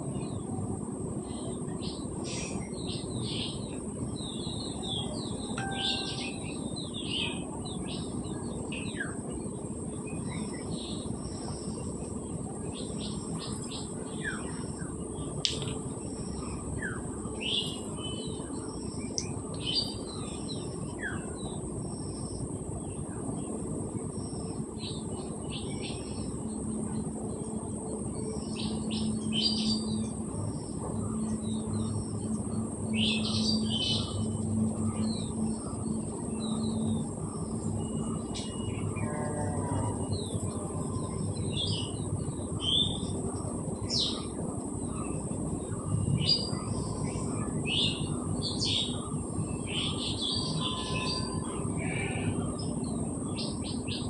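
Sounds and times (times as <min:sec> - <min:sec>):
birds chirping: 0:01.3 - 0:54.0.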